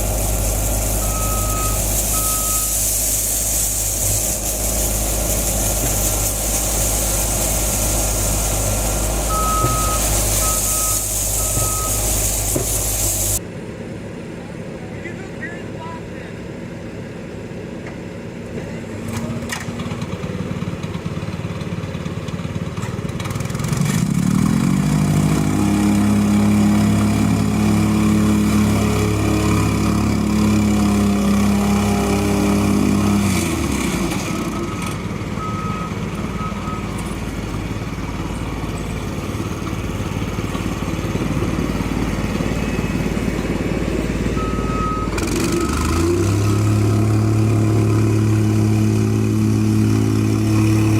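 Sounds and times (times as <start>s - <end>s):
heavy machine engine revving: 0.0s - 13.4s, 18.5s - 50.9s.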